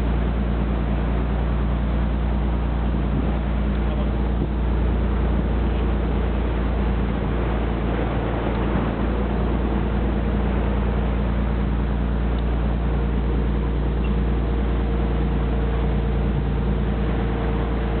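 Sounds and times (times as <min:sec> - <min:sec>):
motorboat engine droning: 0:00.0 - 0:18.0
water rushing along hull: 0:00.0 - 0:18.0.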